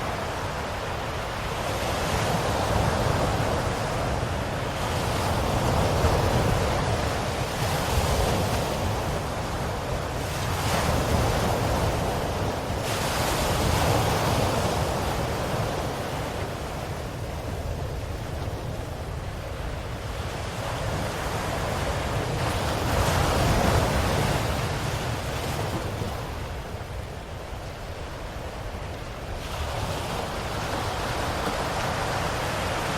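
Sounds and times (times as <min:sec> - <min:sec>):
ocean waves washing ashore: 0:00.0 - 0:32.9.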